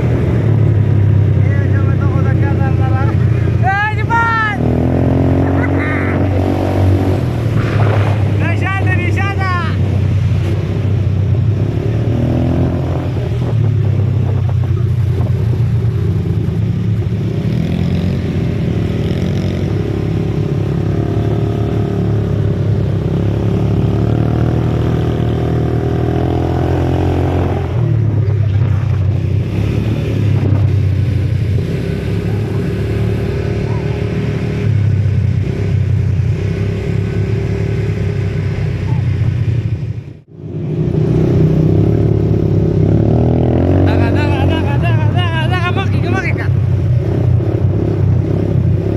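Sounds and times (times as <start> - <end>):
quad bike engine revving: 0.0 - 48.9.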